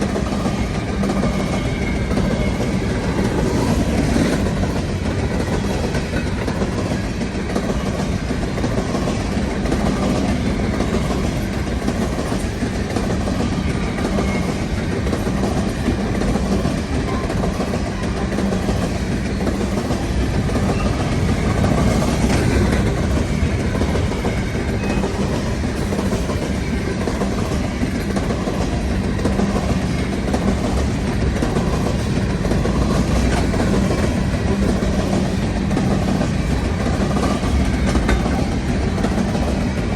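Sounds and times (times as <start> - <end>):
freight train rolling past: 0.0 - 39.9
wheels clacking over rail joints: 0.0 - 39.9.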